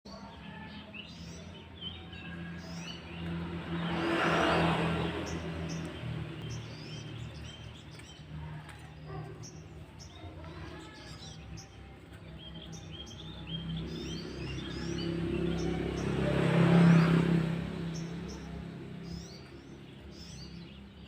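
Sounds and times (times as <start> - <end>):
small birds chirping: 0.1 - 21.0
passing vehicle: 0.3 - 9.8, 10.4 - 21.0.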